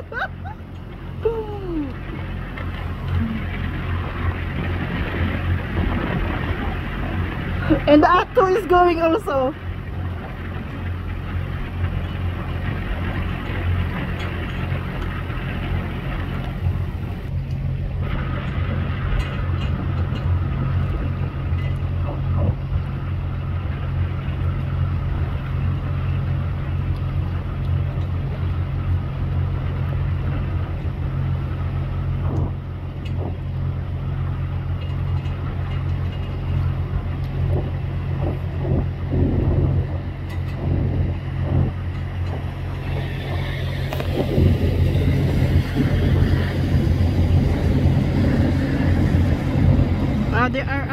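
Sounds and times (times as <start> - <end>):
boat engine humming: 0.0 - 50.9
water noise: 0.0 - 50.9
wind: 0.0 - 50.9.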